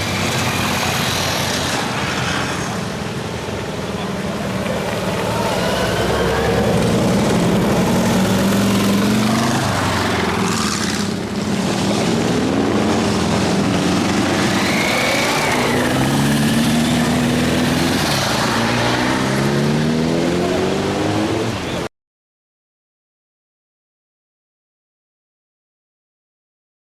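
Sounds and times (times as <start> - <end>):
motorcycles riding past revving: 0.0 - 21.9.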